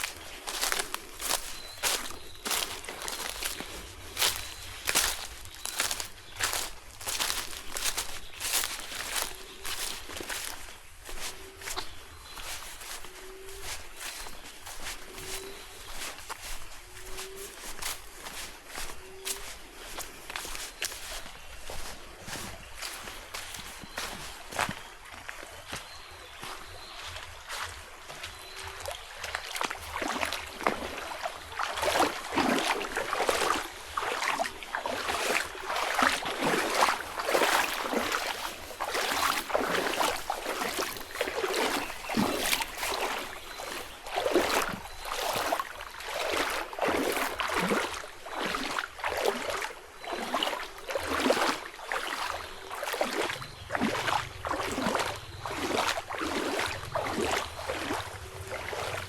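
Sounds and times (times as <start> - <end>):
footsteps crunching on forest path: 0.0 - 59.0.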